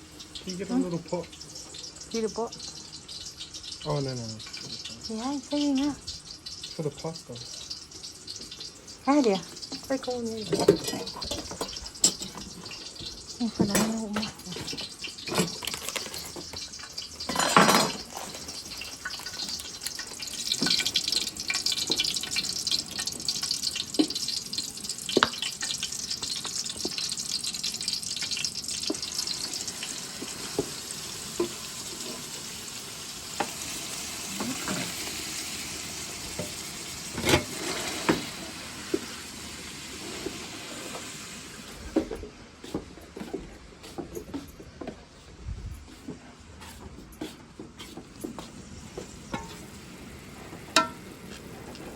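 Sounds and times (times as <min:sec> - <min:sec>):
cooking hiss: 0:00.0 - 0:51.9
pots and utensils clinking: 0:00.3 - 0:45.1, 0:45.9 - 0:51.9.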